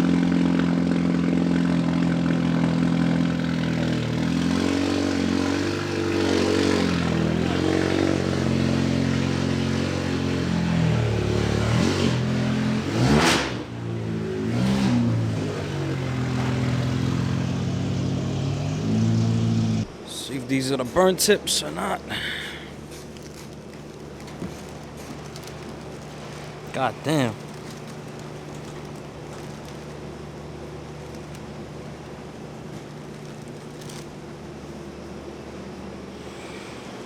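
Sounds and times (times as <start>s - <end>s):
car engine revving: 0.0s - 20.1s, 22.8s - 34.1s.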